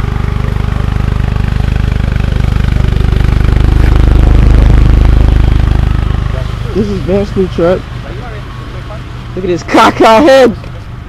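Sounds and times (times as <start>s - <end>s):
vehicle engine pulsing: 0.0s - 11.0s.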